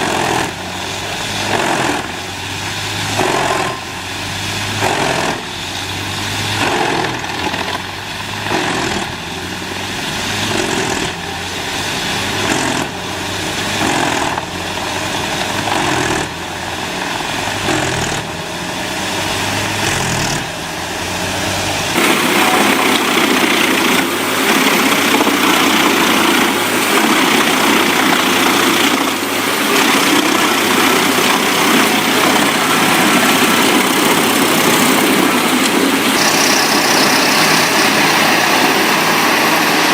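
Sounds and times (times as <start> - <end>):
dense grinding noise: 0.0 - 39.9
wood chipper running: 0.0 - 39.9.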